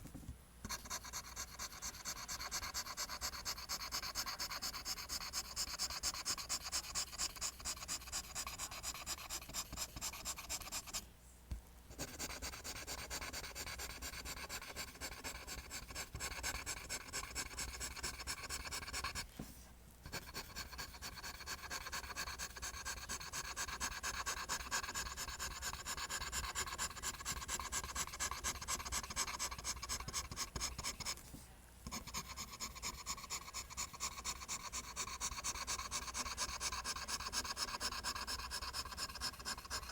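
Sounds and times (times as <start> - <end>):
pencil scratching on paper: 0.7 - 11.0, 11.9 - 19.3, 20.0 - 39.9.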